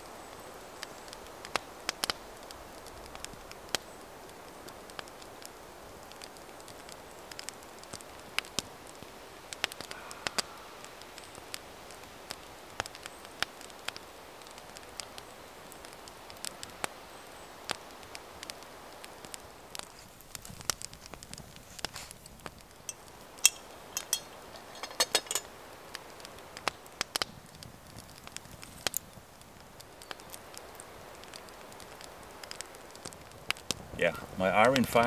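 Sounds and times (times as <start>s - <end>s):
faint steady hiss: 0.0s - 35.0s
wood fire crackling and popping: 0.0s - 35.0s.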